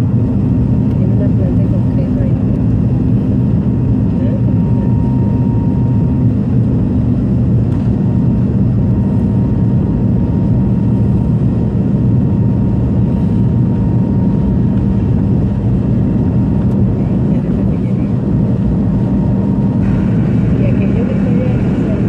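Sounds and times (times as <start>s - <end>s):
jet engines droning in cabin: 0.0s - 22.0s.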